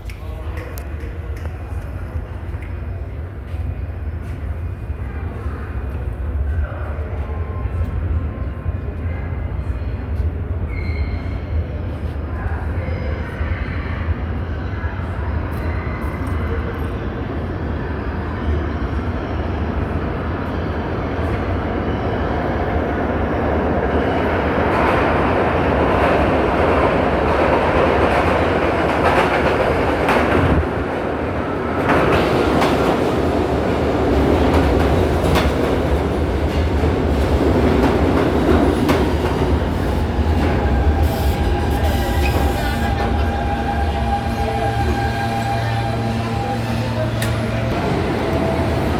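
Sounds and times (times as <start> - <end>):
subway train rumbling on rails: 0.0 - 48.9.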